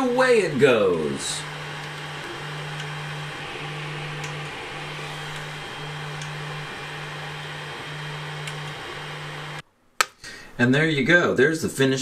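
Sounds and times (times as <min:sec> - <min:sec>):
fan hiss: 0:00.0 - 0:09.6
stepper motor hum: 0:00.0 - 0:09.6.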